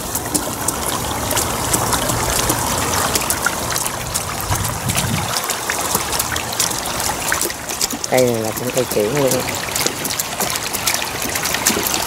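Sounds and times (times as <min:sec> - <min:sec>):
water drips: 0:00.0 - 0:12.0
water trickling and splashing: 0:00.0 - 0:12.0.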